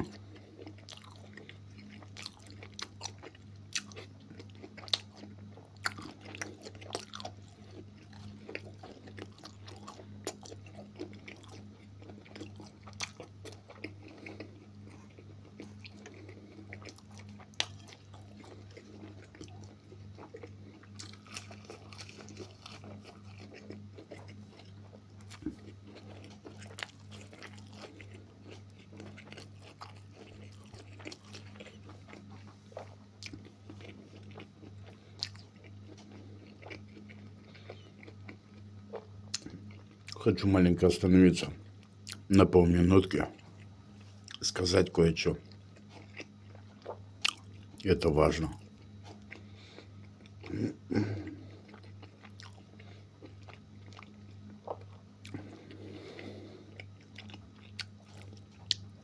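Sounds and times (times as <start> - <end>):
person chewing food: 0.0 - 40.3, 41.8 - 42.3, 43.1 - 44.5, 45.4 - 47.9, 48.5 - 59.0
steady low hum: 0.0 - 59.0.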